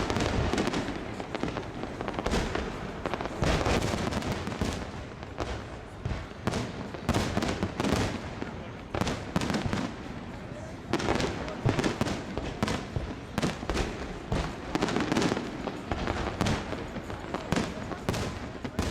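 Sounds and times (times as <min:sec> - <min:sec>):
fireworks bangs: 0:00.0 - 0:18.9
fireworks crackling: 0:00.0 - 0:18.9.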